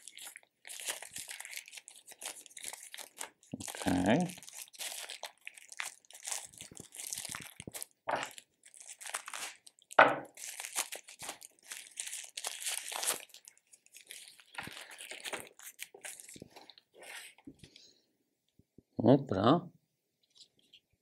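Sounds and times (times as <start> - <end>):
packaging crinkling: 0.0 - 17.5.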